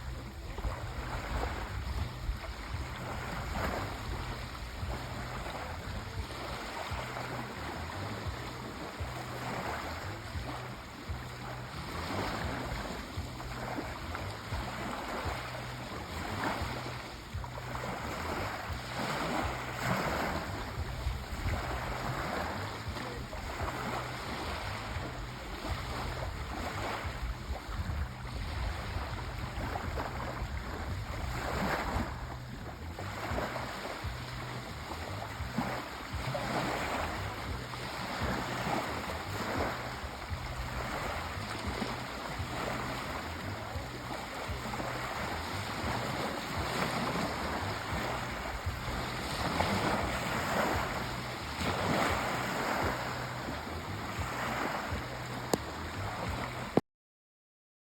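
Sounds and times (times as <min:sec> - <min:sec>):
sea waves breaking on shore: 0:00.0 - 0:56.8.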